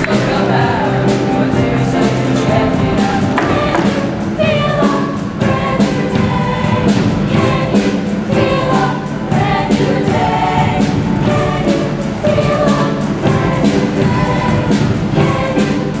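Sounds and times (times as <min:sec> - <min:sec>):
choir singing: 0:00.0 - 0:16.0
musical accompaniment with beat: 0:00.0 - 0:16.0.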